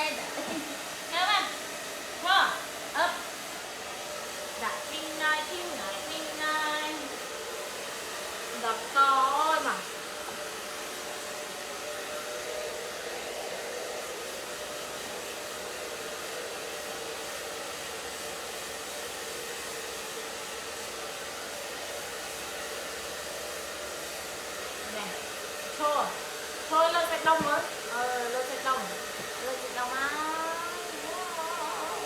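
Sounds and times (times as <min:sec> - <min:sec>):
hair dryer blowing: 0:00.0 - 0:32.0.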